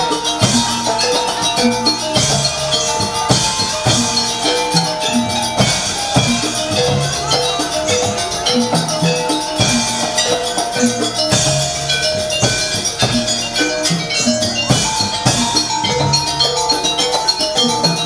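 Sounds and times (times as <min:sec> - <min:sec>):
hand drums driving rhythm: 0:00.0 - 0:18.0
tuned metal gongs: 0:00.0 - 0:18.0.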